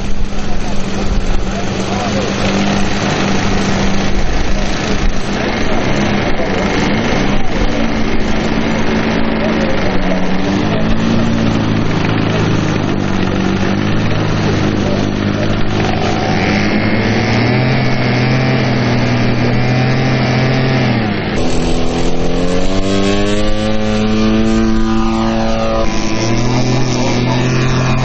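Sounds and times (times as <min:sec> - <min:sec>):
model airplane engine running: 0:00.0 - 0:28.0.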